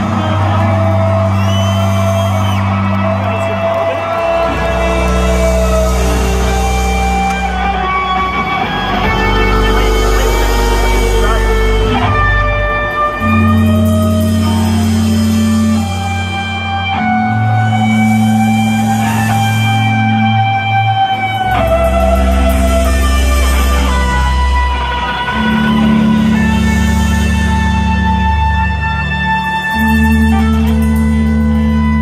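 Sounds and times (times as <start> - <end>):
bass guitar sustained notes: 0.0 - 32.0
electric guitar sustained notes: 0.0 - 32.0.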